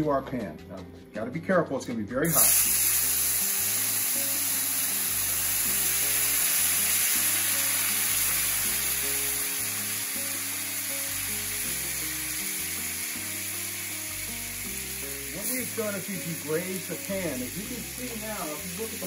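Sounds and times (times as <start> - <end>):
background music: 0.0 - 19.0
broth sizzling in a skillet: 2.3 - 19.0.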